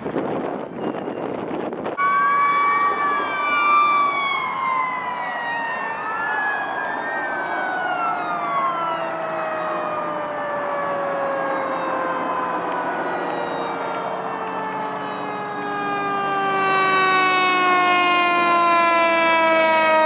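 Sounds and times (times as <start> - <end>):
fire engine sirens wailing: 0.0 - 20.0
traffic noise: 0.0 - 20.0
wind: 0.0 - 20.0.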